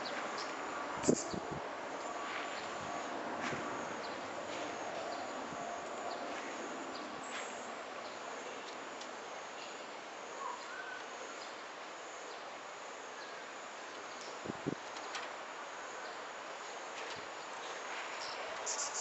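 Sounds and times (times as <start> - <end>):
outdoor garden ambience: 0.0 - 19.0.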